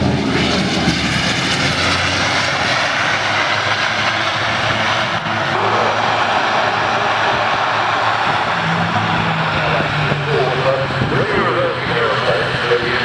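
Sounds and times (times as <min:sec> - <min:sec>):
turboprop engines droning: 0:00.0 - 0:13.0.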